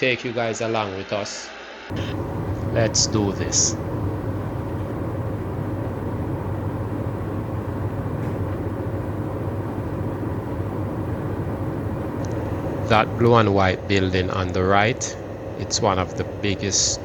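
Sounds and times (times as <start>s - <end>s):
car cabin road and engine rumble: 1.9s - 17.0s.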